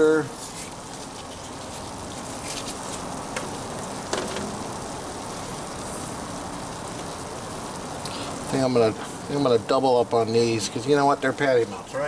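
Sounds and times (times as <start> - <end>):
meat and bread sizzling on griddle: 0.0 - 12.0.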